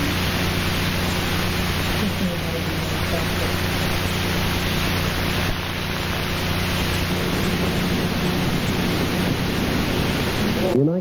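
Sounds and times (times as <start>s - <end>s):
low steady hum: 0.0s - 11.0s
recording hiss: 0.0s - 11.0s.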